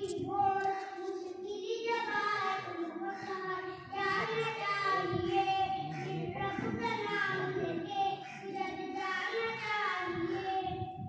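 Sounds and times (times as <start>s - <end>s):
boy singing unaccompanied: 0.0s - 11.0s.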